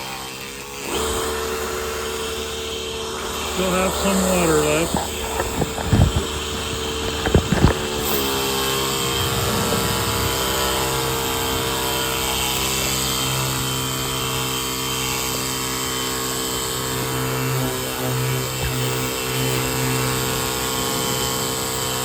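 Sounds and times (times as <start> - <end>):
pressure washer pump humming: 0.0 - 22.0.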